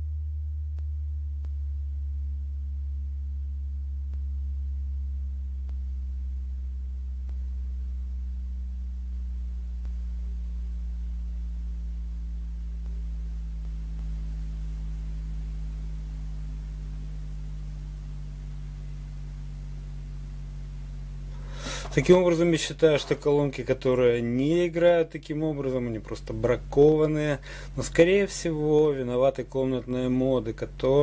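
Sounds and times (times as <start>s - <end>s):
sine tone sweeping down: 0.0s - 31.0s.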